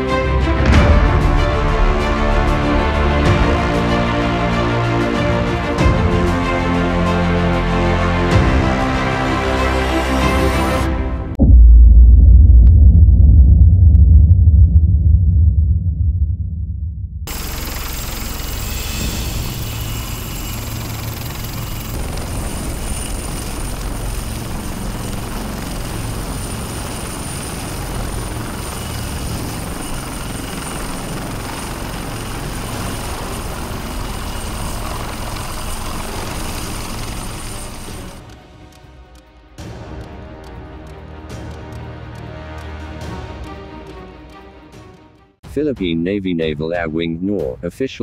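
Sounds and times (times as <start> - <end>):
helicopter hovering: 0.0 - 11.0, 17.3 - 45.0.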